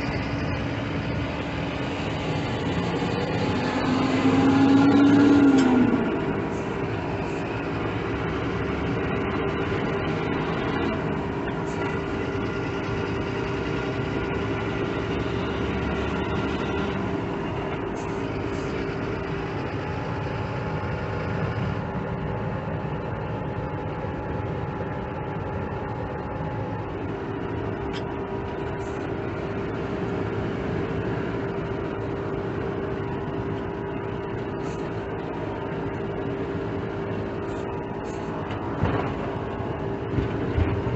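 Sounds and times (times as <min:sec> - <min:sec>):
diesel engine hum: 0:00.0 - 0:40.9
road noise: 0:00.0 - 0:40.9.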